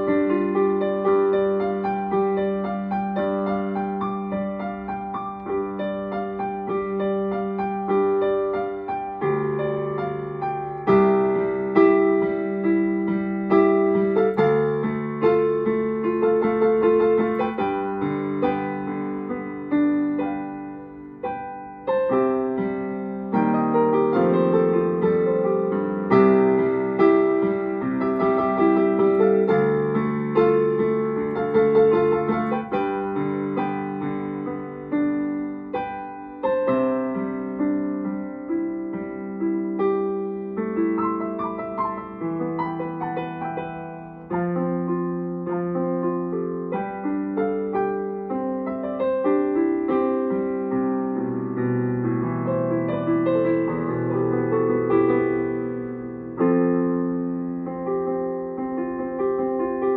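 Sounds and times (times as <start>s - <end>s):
solo piano: 0.0s - 59.9s.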